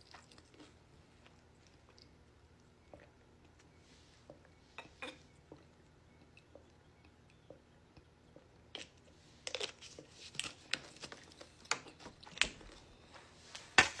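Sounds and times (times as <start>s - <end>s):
crunching and clicking while eating: 0.0s - 4.5s, 5.1s - 12.9s.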